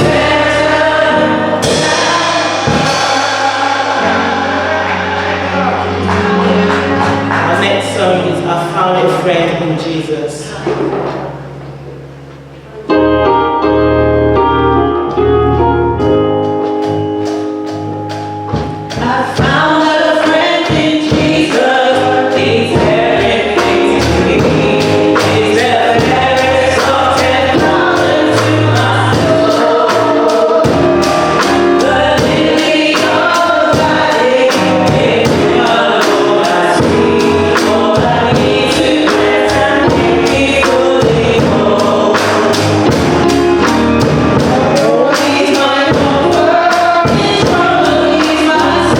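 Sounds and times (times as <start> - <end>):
steady beat: 0.0 - 12.9, 14.8 - 48.9
choir singing gospel: 0.0 - 48.9.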